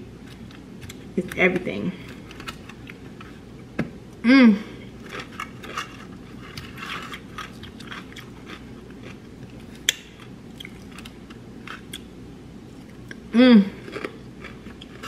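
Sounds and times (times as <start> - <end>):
chewing and crunching salad: 0.2 - 3.4, 4.9 - 12.1, 12.7 - 15.0.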